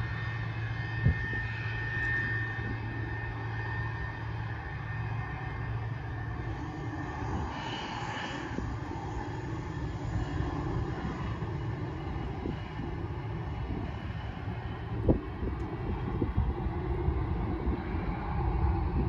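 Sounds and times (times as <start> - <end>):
distant jet engine rumble: 0.0 - 19.0
jet engine whine: 0.0 - 19.0.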